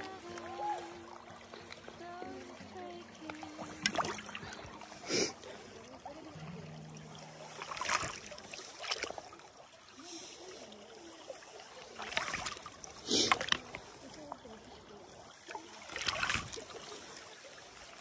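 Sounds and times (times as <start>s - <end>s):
creek water trickling: 0.0s - 18.0s
water splashes and gurgles: 0.0s - 18.0s.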